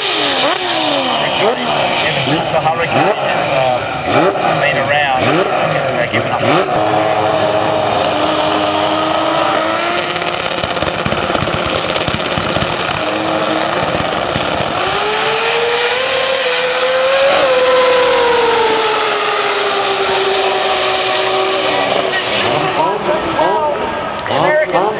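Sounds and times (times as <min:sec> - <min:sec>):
drag racing car engine revving: 0:00.0 - 0:24.9.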